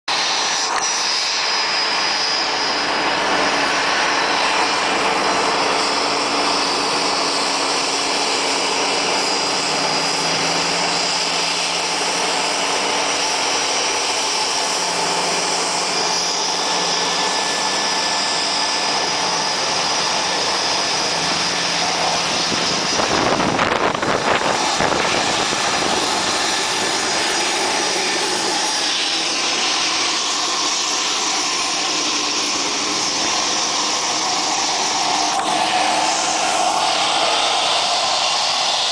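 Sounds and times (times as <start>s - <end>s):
jet engines whining: 0.1s - 38.9s
rough gust of jet wash: 0.1s - 38.9s.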